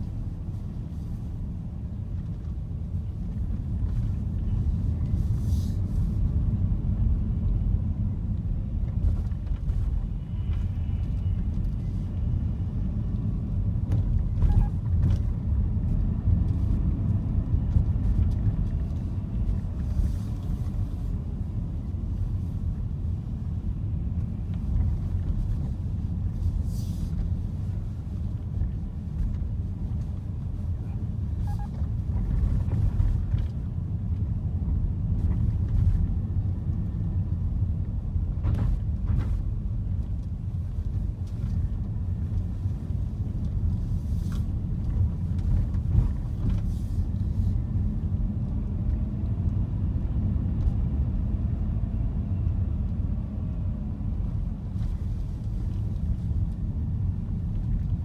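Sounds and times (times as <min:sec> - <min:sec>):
car cabin road and engine noise: 0:00.0 - 0:58.0.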